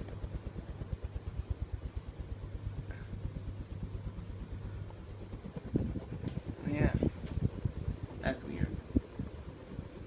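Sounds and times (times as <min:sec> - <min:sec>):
ceiling fan motor hum: 0:00.0 - 0:10.0
pulsing moving air: 0:00.0 - 0:10.0.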